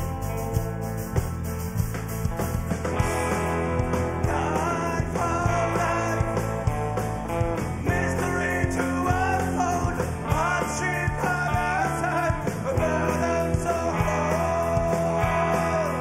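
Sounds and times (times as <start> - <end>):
lead electric guitar bending: 0.0 - 16.0
rock band playing: 0.0 - 16.0.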